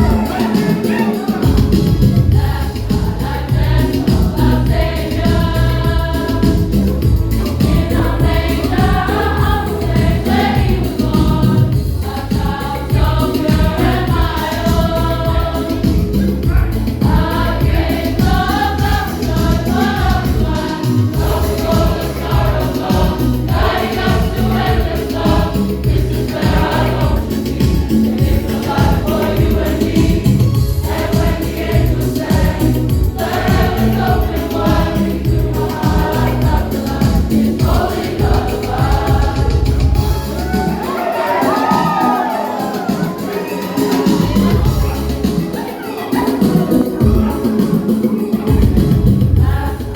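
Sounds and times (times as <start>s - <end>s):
backing track with steady beat: 0.0s - 49.9s
choir singing in unison: 0.0s - 49.9s.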